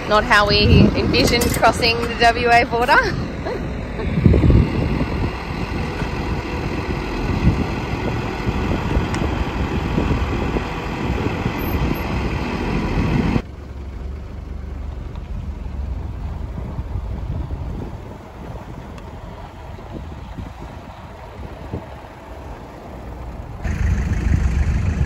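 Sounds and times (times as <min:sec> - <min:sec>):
diesel engine idling: 0:00.0 - 0:25.0
low rumble: 0:00.0 - 0:25.0.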